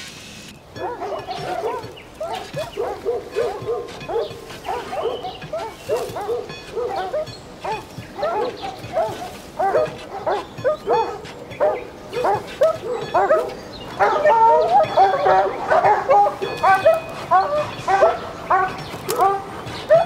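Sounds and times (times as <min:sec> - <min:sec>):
dogs barking: 0:00.6 - 0:20.0.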